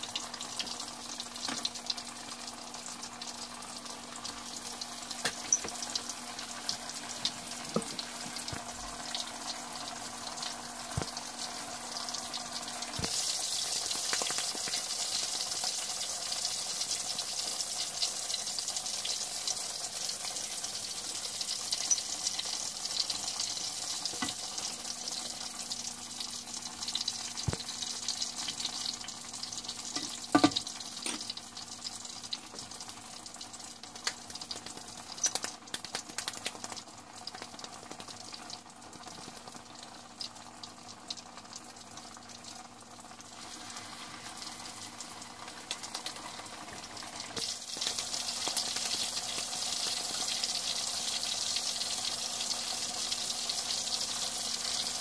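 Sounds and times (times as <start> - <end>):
oil popping and crackling: 0.0 - 55.0
oil sizzling in a pan: 0.0 - 55.0.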